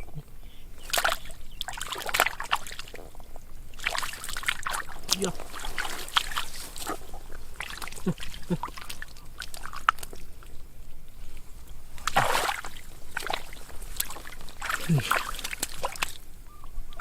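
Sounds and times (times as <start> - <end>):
water splashing and sloshing: 0.7 - 17.0.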